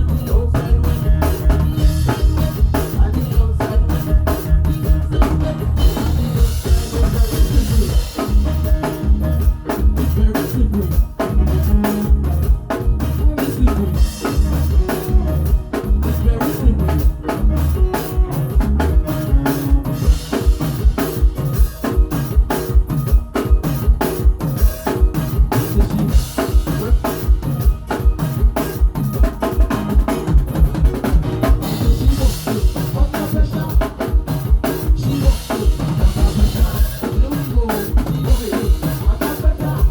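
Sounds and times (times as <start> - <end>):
drum kit groove: 0.0 - 39.9
pitched music: 0.0 - 39.9.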